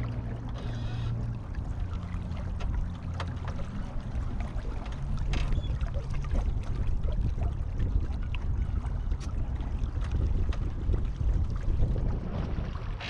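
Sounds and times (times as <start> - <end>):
low steady rumble: 0.0 - 13.0
water slapping against hull: 0.0 - 13.0.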